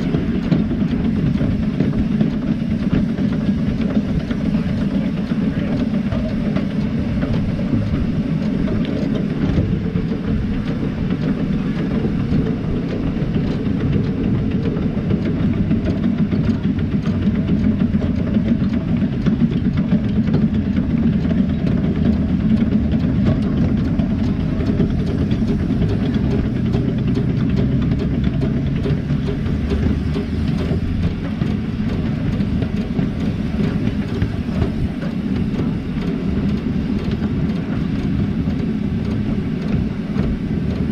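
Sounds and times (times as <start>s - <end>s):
steam locomotive rumbling on rails: 0.0s - 40.9s.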